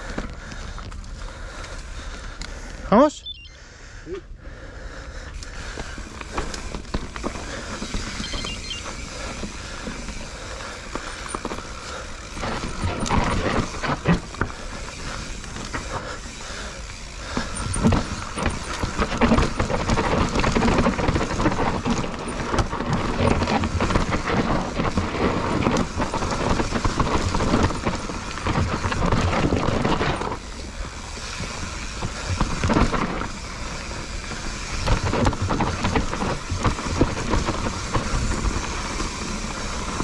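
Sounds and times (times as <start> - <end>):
bike tyres rolling over dirt and rock: 0.0 - 2.8, 5.3 - 40.0
bike knocking and rattling: 5.3 - 40.0.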